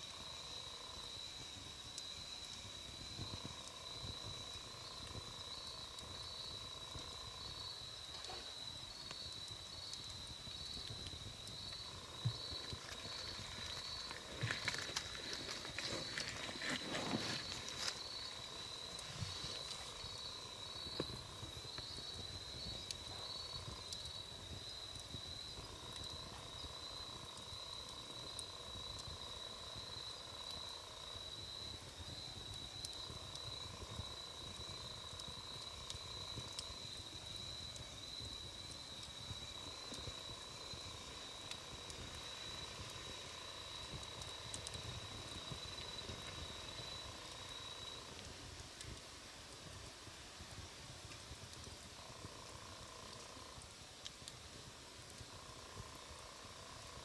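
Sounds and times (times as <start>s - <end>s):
campfire crackling and popping: 0.0s - 57.0s
insect trill: 0.0s - 57.0s.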